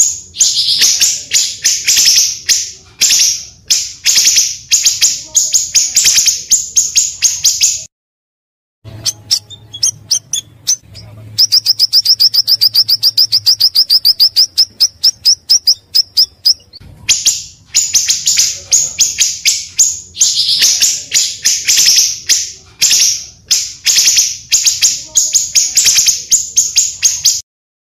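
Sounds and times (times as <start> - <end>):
harsh bird chattering: 0.0 - 7.9, 8.9 - 27.4
high piercing bird notes: 0.0 - 7.9, 8.9 - 27.4.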